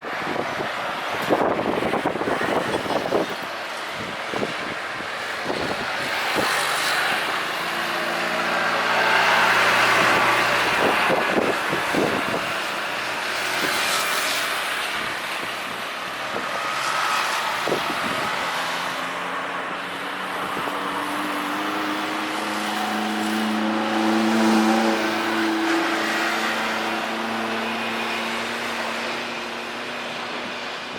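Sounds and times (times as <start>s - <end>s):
jet engines: 0.0s - 30.9s
road traffic passing: 0.0s - 30.9s.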